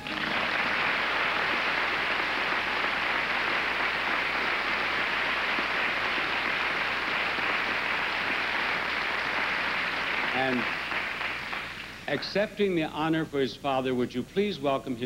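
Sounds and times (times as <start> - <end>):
large audience applauding: 0.0 - 12.4.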